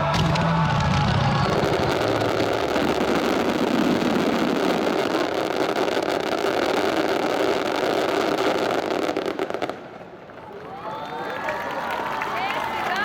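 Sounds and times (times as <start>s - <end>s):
fireworks crackle and rumble: 0.0s - 13.0s.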